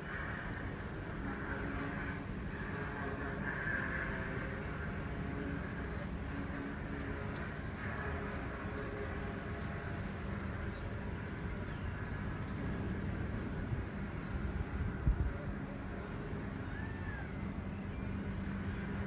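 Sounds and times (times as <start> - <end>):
wind buffeting microphone: 0.6 - 16.6.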